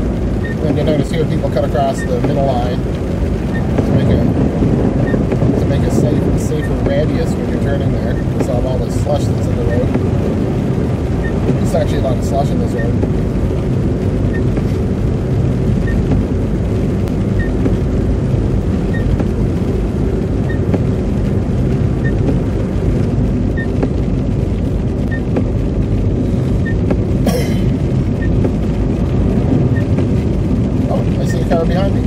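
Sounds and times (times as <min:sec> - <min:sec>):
car engine: 0:00.0 - 0:32.0.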